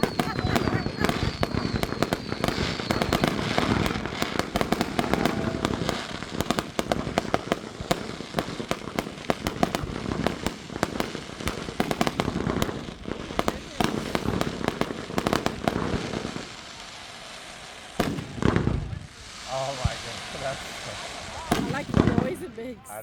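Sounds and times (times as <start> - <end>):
fireworks low booms: 0.0 - 16.6, 17.9 - 22.5
fireworks cracking and popping: 0.0 - 23.0.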